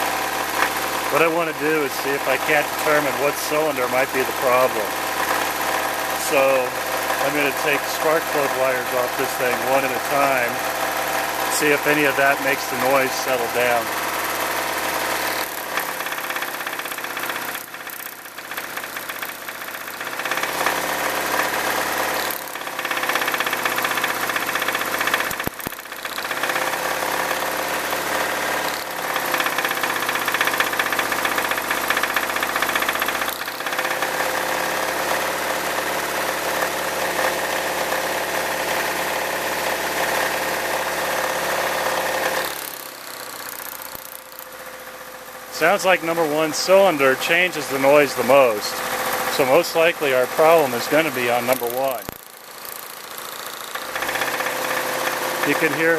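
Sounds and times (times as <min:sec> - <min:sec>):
car engine idling with knock: 0:00.0 - 0:45.6, 0:47.1 - 0:49.6, 0:50.2 - 0:55.9.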